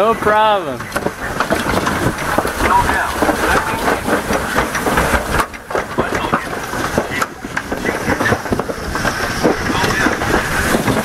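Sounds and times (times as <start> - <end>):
sled rattling down metal chute: 0.0 - 11.0.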